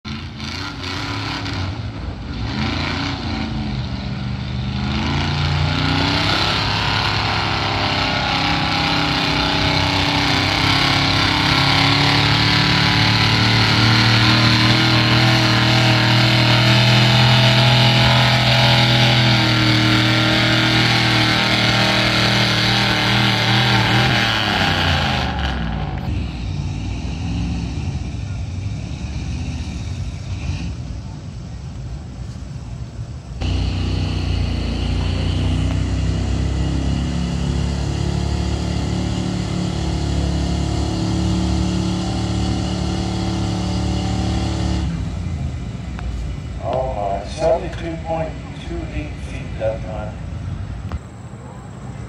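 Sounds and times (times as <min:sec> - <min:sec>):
pickup truck engine under load: 0:00.1 - 0:52.0.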